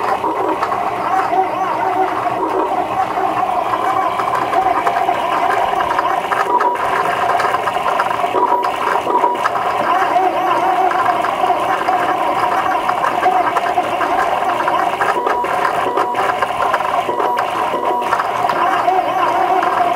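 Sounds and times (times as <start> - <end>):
mechanical whir: 0.0 - 19.9
stepper motors whining: 0.0 - 19.9.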